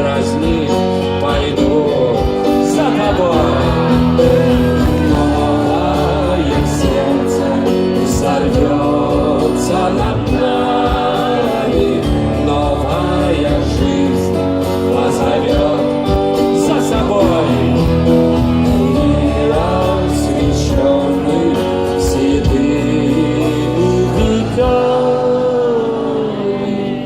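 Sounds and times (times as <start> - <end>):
live rock band playing: 0.0 - 26.2
bending lead melody: 0.0 - 27.0.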